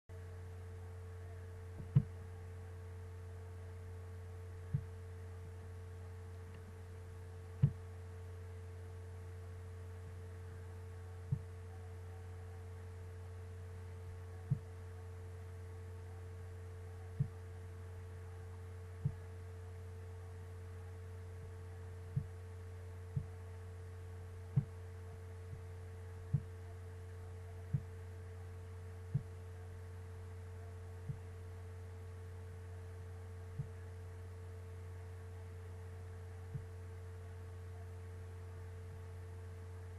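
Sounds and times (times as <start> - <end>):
steady low hum: 0.1 - 39.9.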